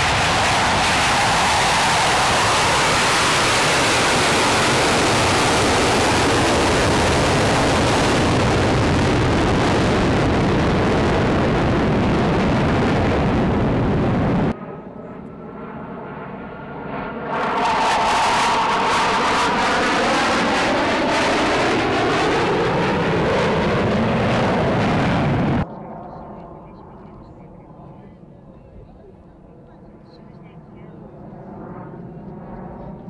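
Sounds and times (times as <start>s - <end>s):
dull jet rumble: 0.0s - 33.0s
jet engines at takeoff: 0.0s - 33.0s.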